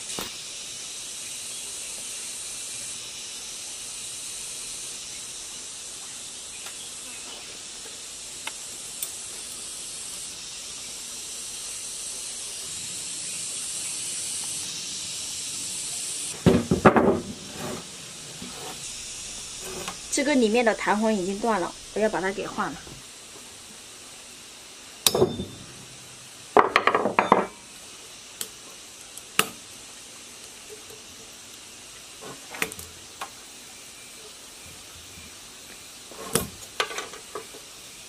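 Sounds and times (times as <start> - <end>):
steady high hiss: 0.0 - 38.0.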